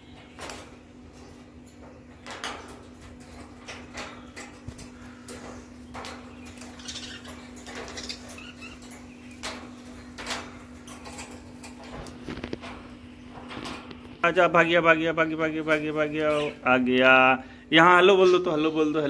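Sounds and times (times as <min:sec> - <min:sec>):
beak and claws on metal bars: 0:00.0 - 0:16.7
wing rustles: 0:00.0 - 0:16.9
steady low hum: 0:00.0 - 0:19.0.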